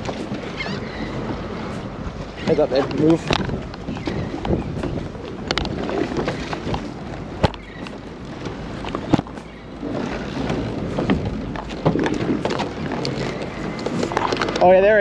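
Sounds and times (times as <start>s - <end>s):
water washing against hull: 0.0s - 15.0s
wind buffeting microphone: 0.0s - 15.0s.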